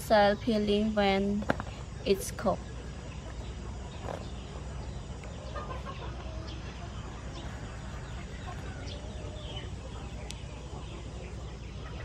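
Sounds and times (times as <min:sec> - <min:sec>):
chickens clucking: 0:00.1 - 0:12.0.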